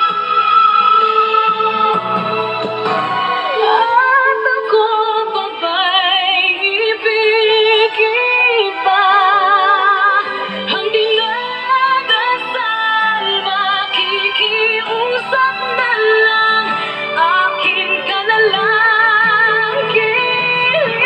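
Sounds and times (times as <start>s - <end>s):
musical accompaniment: 0.0s - 21.0s
woman singing with vibrato: 0.0s - 21.0s.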